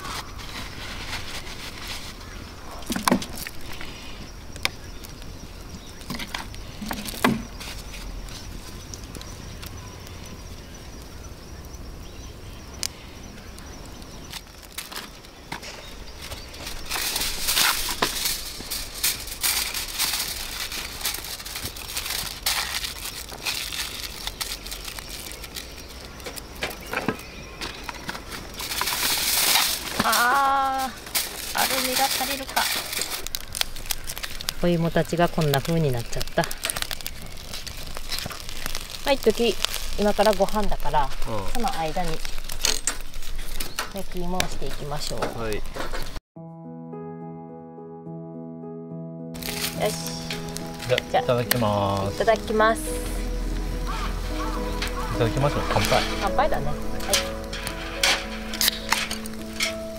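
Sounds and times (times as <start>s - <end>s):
plastic bottle crinkling: 0.0s - 4.2s, 6.0s - 9.2s, 14.4s - 46.2s, 49.4s - 59.9s.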